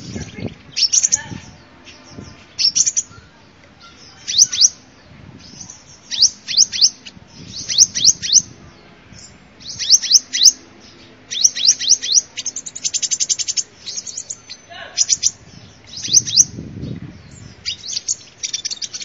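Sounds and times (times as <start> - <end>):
sunbird calling: 0.0 - 19.0.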